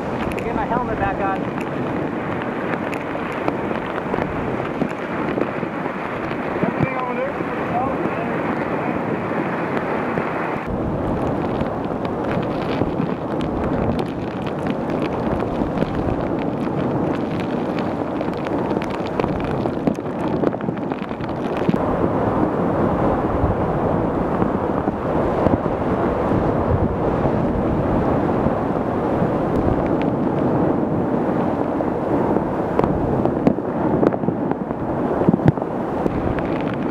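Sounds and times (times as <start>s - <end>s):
hurricane wind roaring: 0.0s - 36.9s
waves crashing: 0.0s - 36.9s
wind buffeting microphone: 0.0s - 36.9s.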